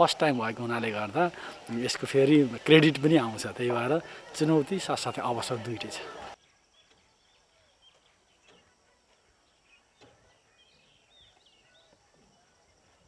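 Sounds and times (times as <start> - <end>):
faint bird chirps: 1.0 - 13.0.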